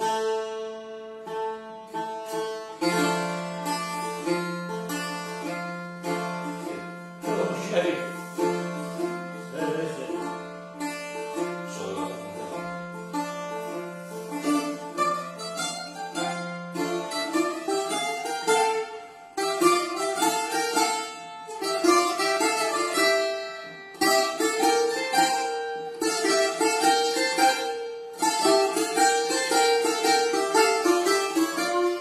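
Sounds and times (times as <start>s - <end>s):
bouzoukis picking a melody: 0.0s - 32.0s.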